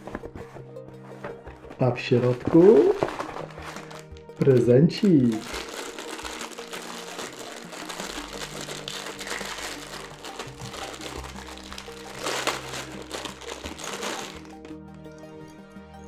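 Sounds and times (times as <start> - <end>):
packaging crinkling and rustling: 0.0 - 15.3
background music: 0.0 - 16.0.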